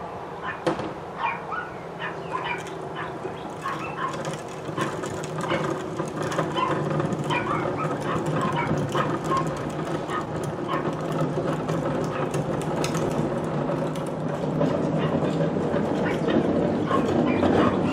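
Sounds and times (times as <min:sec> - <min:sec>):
trash carts rattling over pavement: 0:00.4 - 0:17.9.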